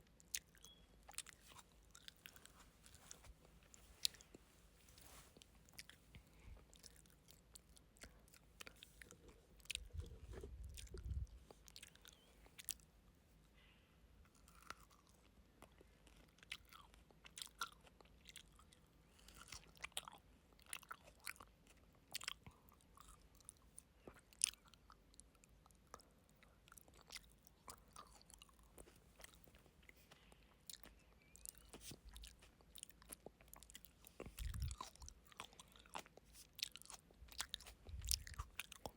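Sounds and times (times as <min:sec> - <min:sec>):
chewing crunchy grapes: 0:00.0 - 0:13.2, 0:14.2 - 0:38.9.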